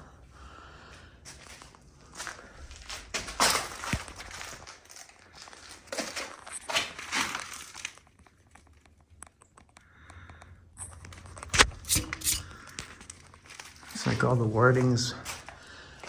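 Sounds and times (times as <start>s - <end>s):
rustling and crunching: 1.3s - 9.6s, 10.8s - 16.0s.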